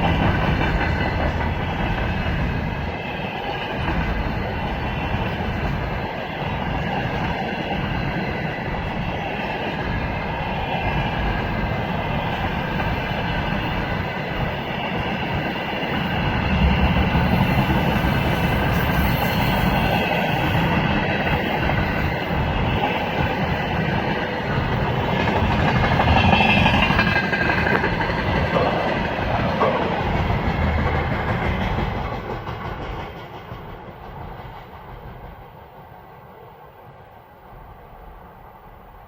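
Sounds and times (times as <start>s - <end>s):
freight train wheels clattering: 0.0s - 10.2s, 10.8s - 35.7s.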